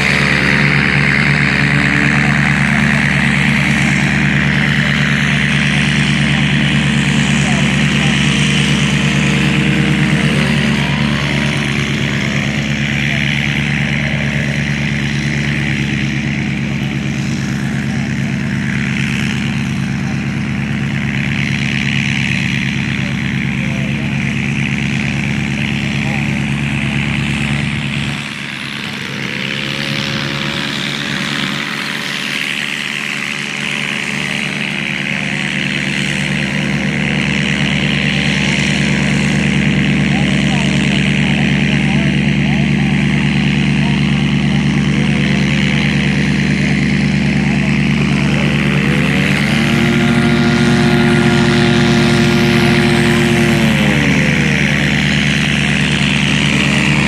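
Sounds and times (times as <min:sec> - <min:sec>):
model aircraft engine in flight: 0:00.0 - 0:57.0.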